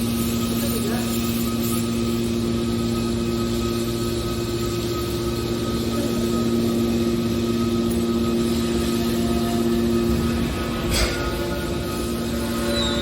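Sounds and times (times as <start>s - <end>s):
hydraulic power unit humming: 0.0s - 13.0s.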